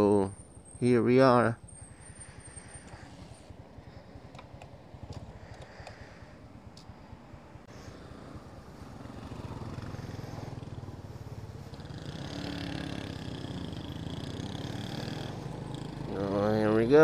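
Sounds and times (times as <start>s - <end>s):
motorcycle engine running: 1.6s - 17.0s.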